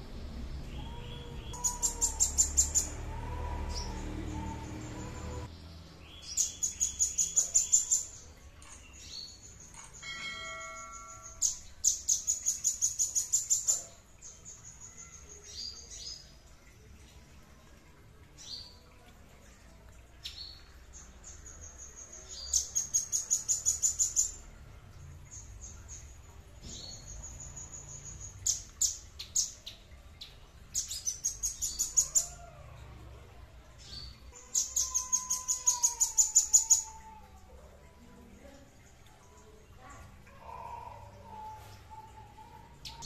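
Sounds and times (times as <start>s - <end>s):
songbird singing: 0.0s - 17.4s, 18.2s - 43.0s.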